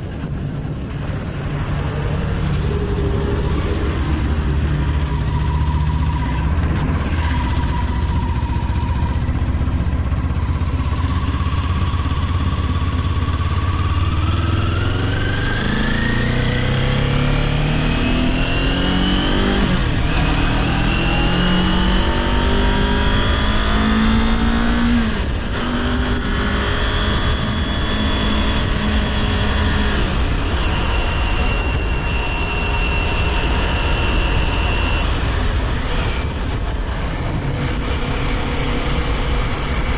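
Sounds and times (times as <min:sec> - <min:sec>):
motorcycle engine accelerating: 0:00.0 - 0:39.9
wind rush: 0:00.0 - 0:39.9.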